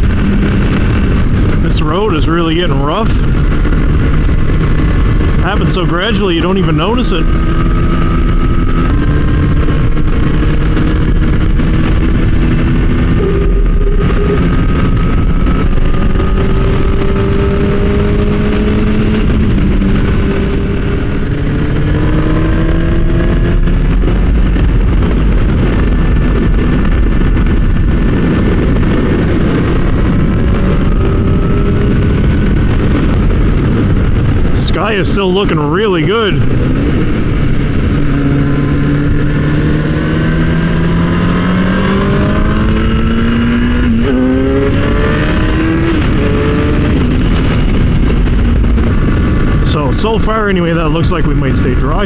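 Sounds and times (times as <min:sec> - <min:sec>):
motorcycle engine running: 0:00.0 - 0:52.0
wind noise: 0:00.0 - 0:52.0.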